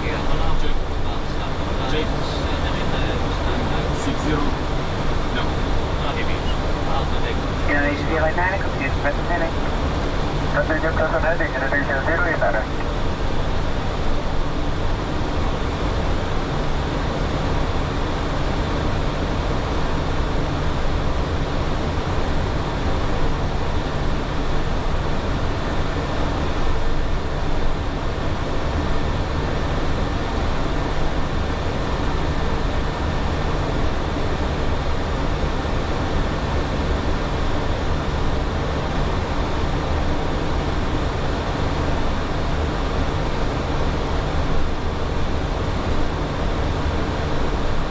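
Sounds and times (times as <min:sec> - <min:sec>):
rushing air and engine noise: 0:00.0 - 0:47.9.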